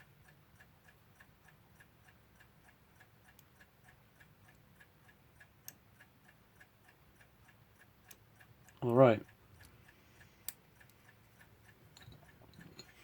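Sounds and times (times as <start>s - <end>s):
mechanical clock ticking: 0.0s - 13.0s.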